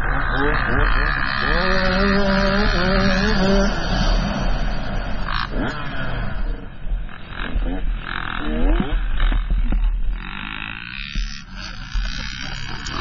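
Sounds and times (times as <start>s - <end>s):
dirt bike engine high revs: 0.0s - 13.0s.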